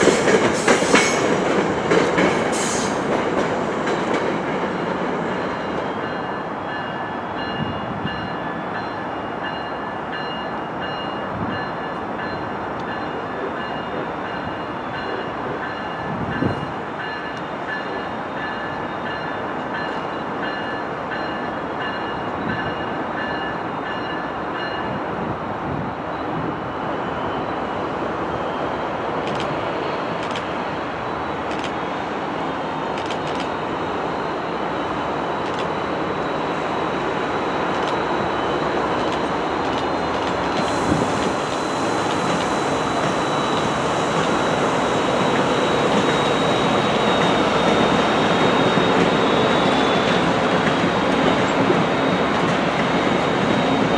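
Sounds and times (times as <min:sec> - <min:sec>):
train engine and wheels rumbling: 0:00.0 - 0:53.9.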